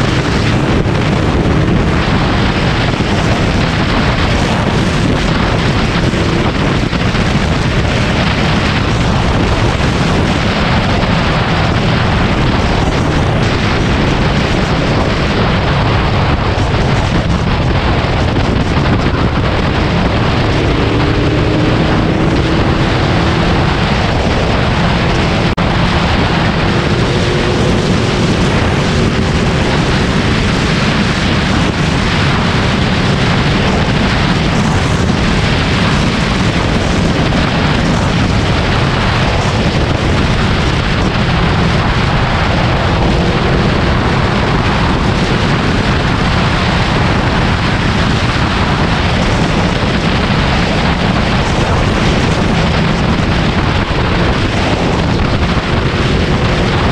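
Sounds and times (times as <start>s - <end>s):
motorcycle engine cruising: 0.0s - 56.9s
wind on microphone: 0.0s - 56.9s.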